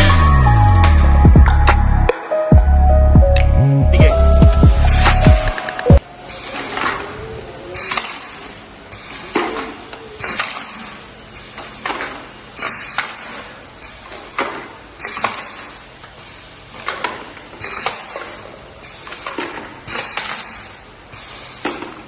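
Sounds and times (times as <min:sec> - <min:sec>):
steady mechanical noise: 0:04.0 - 0:22.0.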